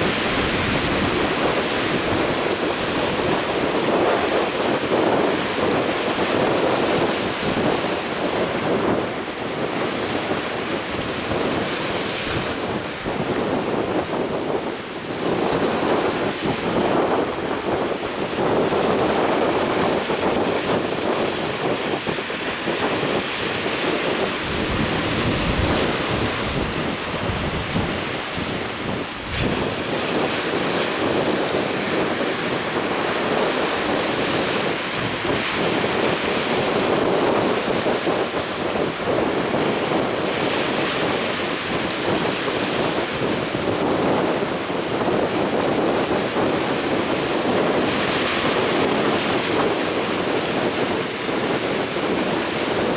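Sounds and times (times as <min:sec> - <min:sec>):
sea waves breaking: 0:00.0 - 0:52.9
wind buffeting microphone: 0:00.0 - 0:52.9.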